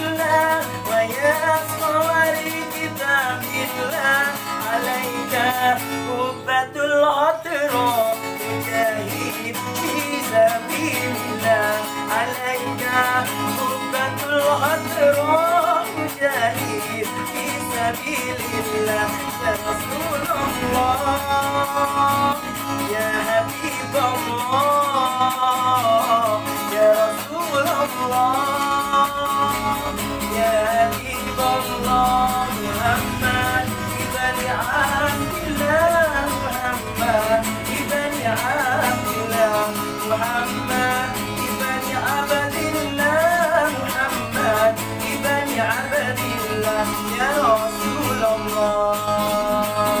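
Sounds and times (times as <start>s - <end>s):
man singing devotional song: 0.0s - 50.0s
strummed acoustic guitar: 0.0s - 50.0s.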